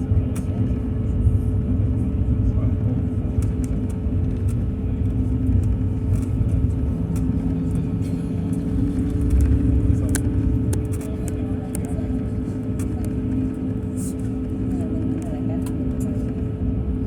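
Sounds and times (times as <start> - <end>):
constant hum: 0.0 - 17.0
jet engine rumble: 0.0 - 17.0.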